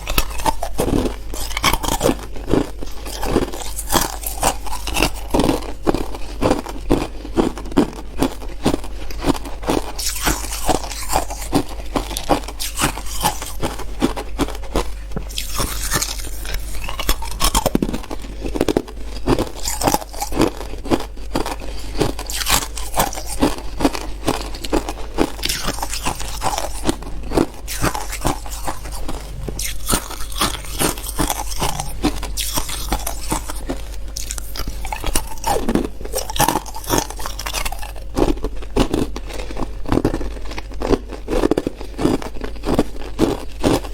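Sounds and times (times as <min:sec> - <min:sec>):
ice being chewed: 0:00.0 - 0:43.9.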